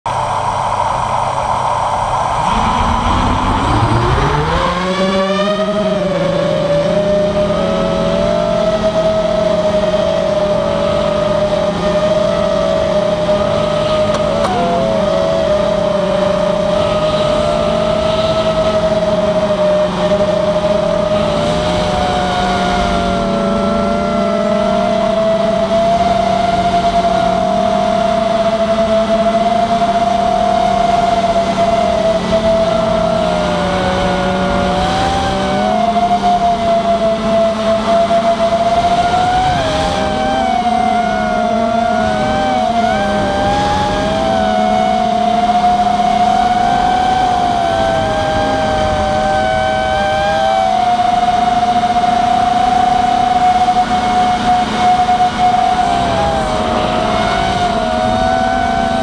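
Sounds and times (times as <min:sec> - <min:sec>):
drone motors whining: 0:00.1 - 0:59.0.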